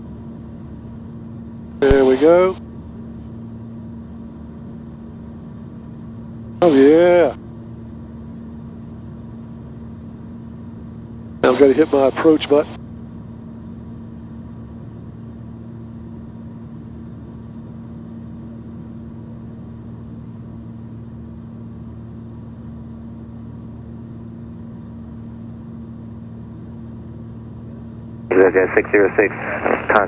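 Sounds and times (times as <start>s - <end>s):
aircraft propeller engines droning: 0.1s - 30.0s.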